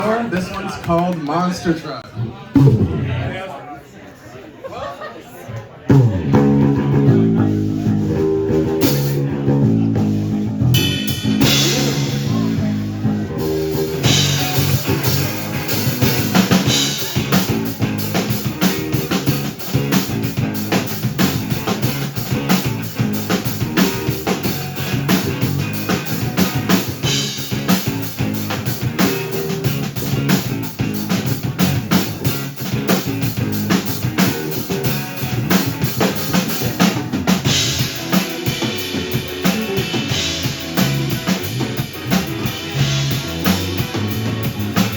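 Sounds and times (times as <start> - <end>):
bass guitar: 5.9 - 44.9
drum kit with cymbals: 5.9 - 44.9
guitar: 5.9 - 44.9.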